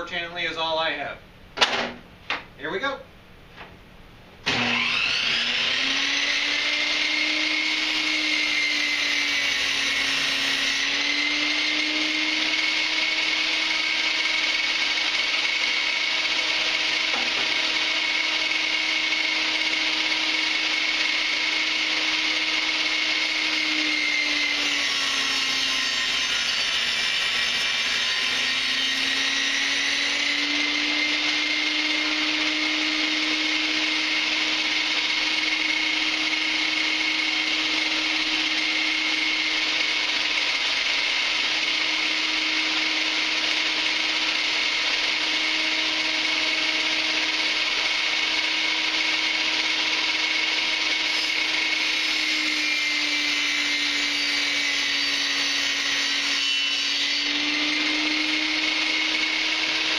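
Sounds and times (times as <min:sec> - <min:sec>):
table saw motor whine: 0:04.4 - 0:59.9.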